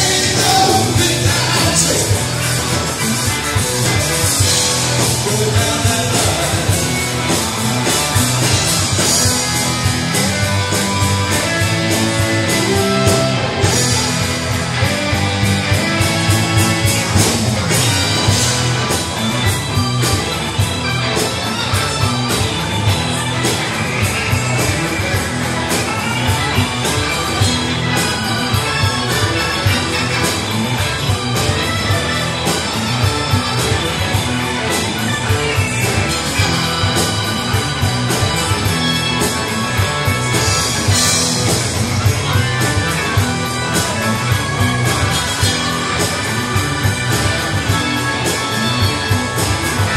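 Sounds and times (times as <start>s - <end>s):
bass: 0.0s - 49.9s
electric guitars: 0.0s - 49.9s.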